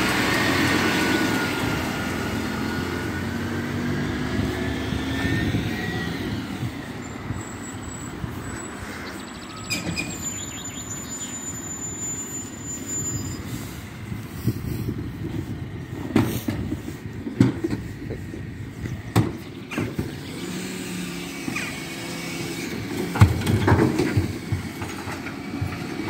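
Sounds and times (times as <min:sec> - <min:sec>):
diesel lorry driving off: 0:00.0 - 0:26.0.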